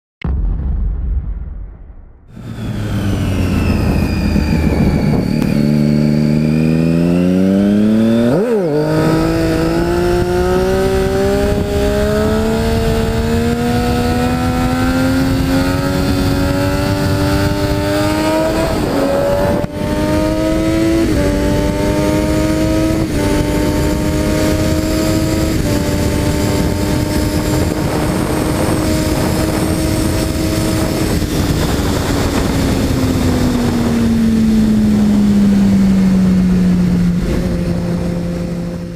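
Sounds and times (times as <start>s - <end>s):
motorcycle engine accelerating: 2.3s - 38.9s.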